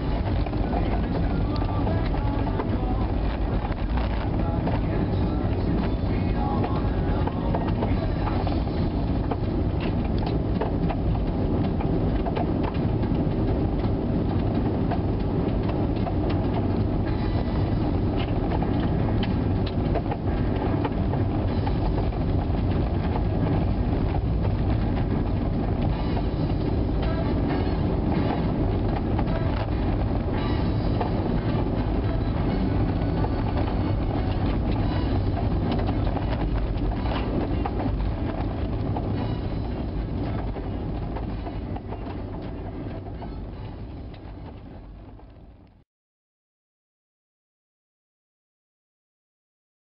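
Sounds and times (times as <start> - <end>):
car engine running: 0.0 - 45.7
tyres rumbling on road: 0.0 - 45.8.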